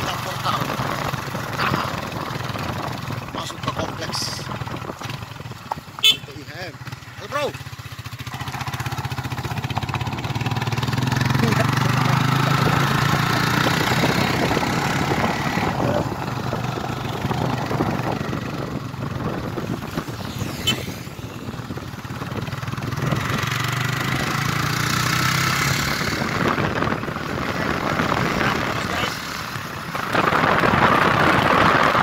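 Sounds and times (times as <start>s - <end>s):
motorcycle engine hum: 0.0s - 32.0s.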